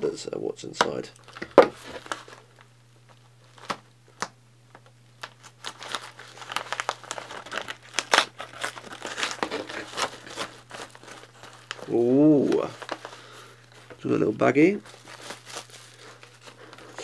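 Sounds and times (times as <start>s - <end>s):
paper crinkling and rustling: 1.2s - 3.8s, 4.7s - 17.0s.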